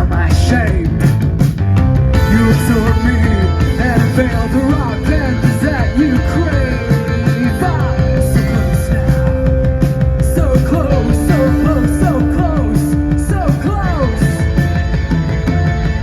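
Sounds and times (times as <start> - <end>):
driving bass line: 0.0 - 16.0
drums with cymbal hits: 0.0 - 16.0.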